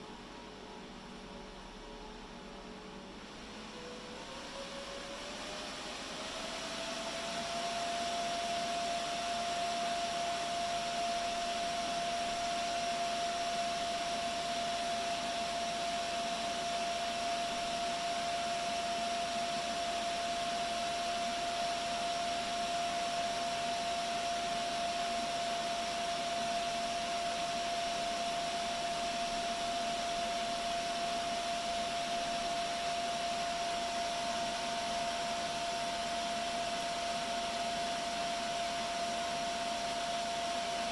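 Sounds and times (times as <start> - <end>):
server cooling fans whining: 0.0 - 40.9.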